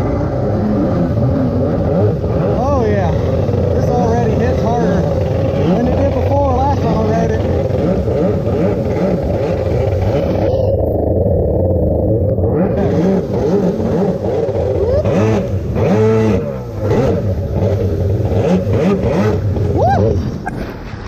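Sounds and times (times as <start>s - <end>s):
jet ski engine revving: 0.0s - 20.9s.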